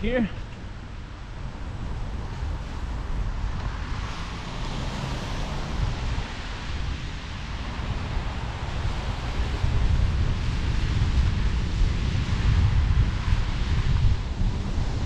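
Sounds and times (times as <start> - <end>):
low rumble: 0.0 - 15.0
wind rushing over microphone: 0.0 - 15.0.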